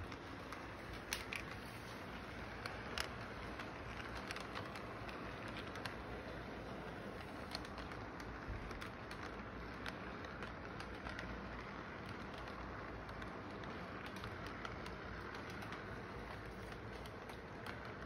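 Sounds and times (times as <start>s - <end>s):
model train rumbling on track: 0.0s - 18.0s
wheels clicking over rails: 0.0s - 18.0s.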